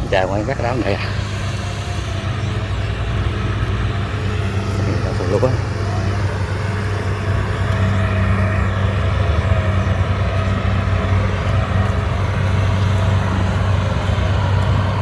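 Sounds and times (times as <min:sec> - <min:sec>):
harvester diesel engine droning: 0:00.0 - 0:15.0.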